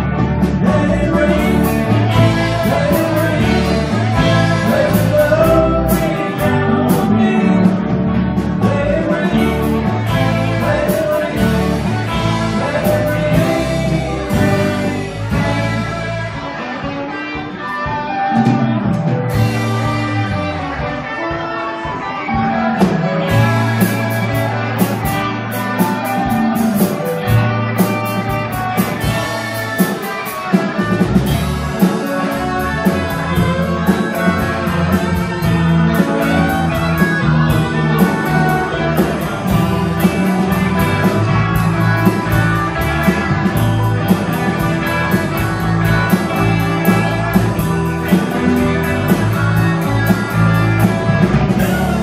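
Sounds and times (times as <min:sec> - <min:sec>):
bass guitar: 0:00.0 - 0:52.0
drum kit beat: 0:00.0 - 0:52.0
electric guitars: 0:00.0 - 0:52.0.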